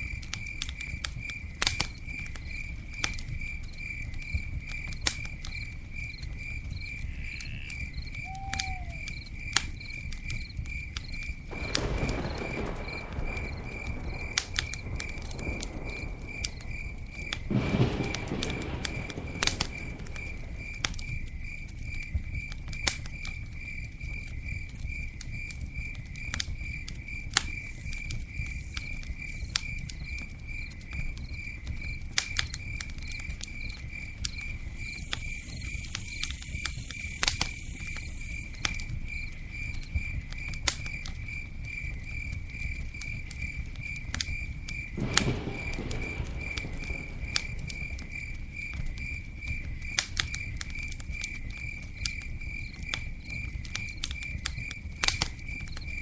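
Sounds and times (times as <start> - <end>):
campfire crackling and popping: 0.0 - 56.0
cricket chirping: 0.0 - 56.0.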